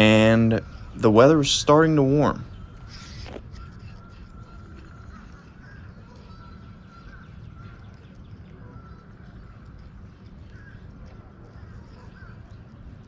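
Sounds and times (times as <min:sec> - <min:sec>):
birds chirping: 0:00.0 - 0:13.0
wind rumble: 0:00.0 - 0:13.0.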